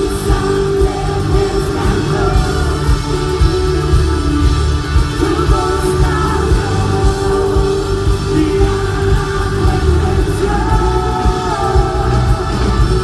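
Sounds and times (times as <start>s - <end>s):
bass and drums: 0.0s - 13.0s
voices singing long notes: 0.0s - 13.0s.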